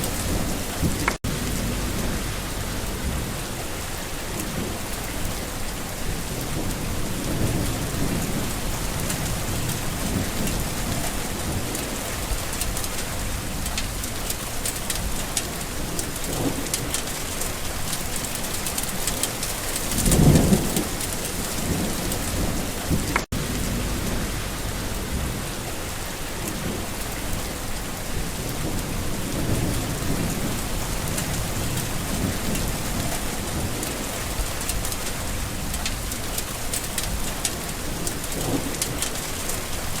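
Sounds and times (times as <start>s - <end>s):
steady rain falling: 0.0s - 40.0s
thunder rumbling: 0.0s - 40.0s.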